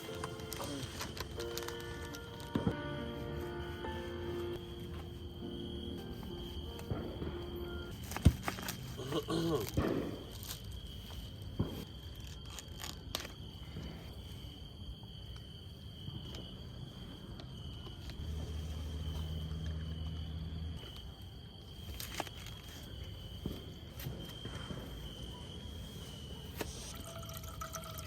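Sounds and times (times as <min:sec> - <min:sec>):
insect chirring: 0:00.0 - 0:28.0.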